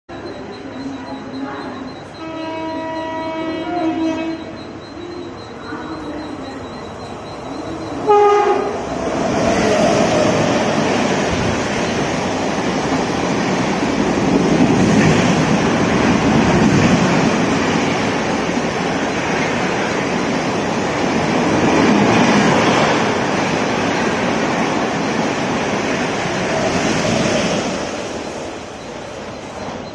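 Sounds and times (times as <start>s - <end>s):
train rushing past: 0.2s - 29.9s.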